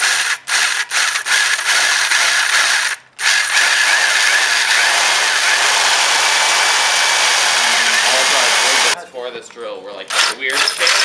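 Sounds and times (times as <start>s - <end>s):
electric drill cutting metal: 0.0s - 9.0s, 10.1s - 11.0s.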